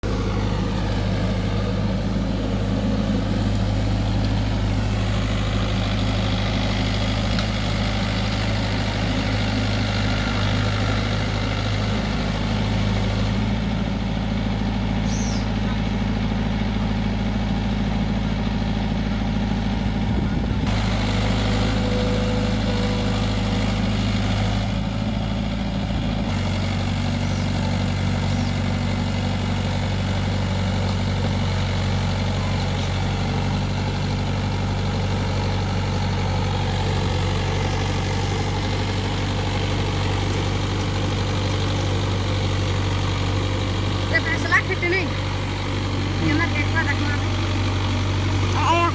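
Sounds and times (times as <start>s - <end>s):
tractor engine idling: 0.0s - 48.9s.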